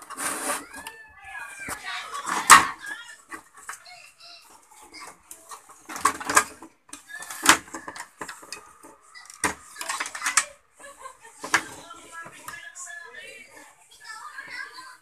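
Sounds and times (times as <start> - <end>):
wires knocking and rustling: 0.0 - 12.9.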